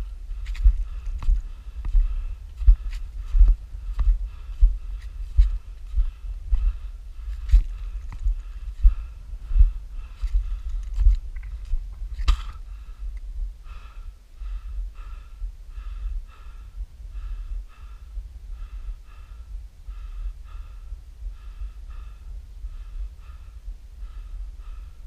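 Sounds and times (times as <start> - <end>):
heavy rhythmic breathing: 0.0 - 25.0
low rumble: 0.0 - 25.0.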